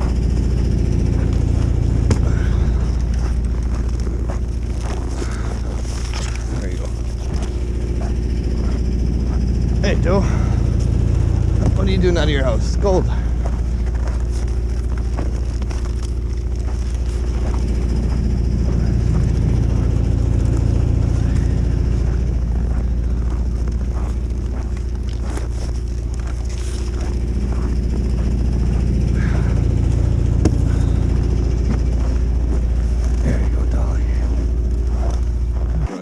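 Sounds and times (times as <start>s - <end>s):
small knocks and crunches: 0.0s - 9.8s, 10.7s - 35.9s
engine running low hum: 0.0s - 36.0s.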